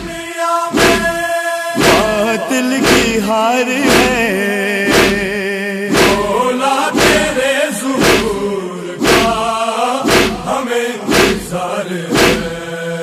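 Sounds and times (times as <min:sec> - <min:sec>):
chest-beating thuds: 0:00.0 - 0:12.7
men singing mournful melody: 0:00.0 - 0:13.0
vocal drone: 0:00.0 - 0:13.0.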